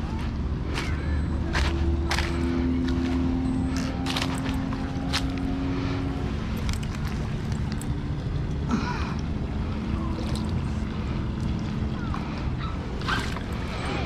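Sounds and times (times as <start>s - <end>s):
faint motor hum: 0.0s - 14.0s.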